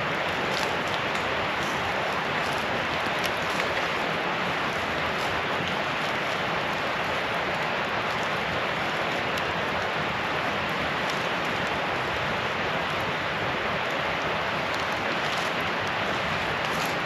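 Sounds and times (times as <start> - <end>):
campfire hissing and crackling: 0.0 - 17.0.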